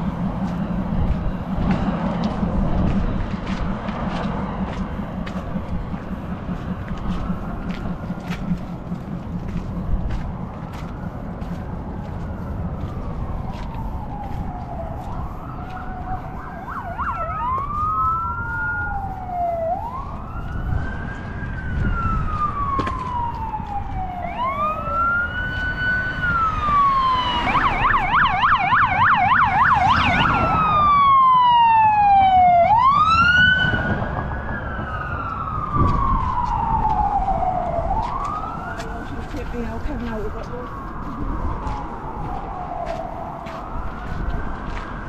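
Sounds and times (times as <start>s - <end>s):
emergency siren wailing: 0.0s - 45.0s
low traffic rumble: 0.0s - 45.0s
siren yelp: 0.0s - 45.0s.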